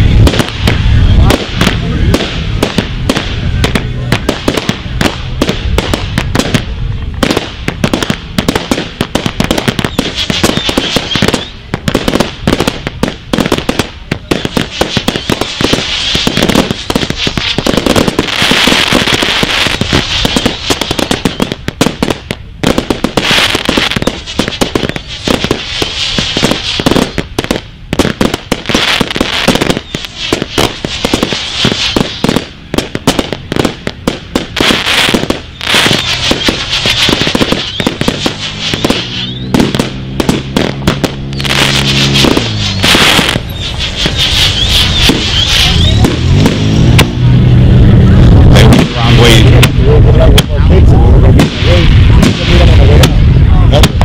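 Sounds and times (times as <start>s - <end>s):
crackling hiss: 0.0s - 54.0s
firework bangs: 0.0s - 54.0s.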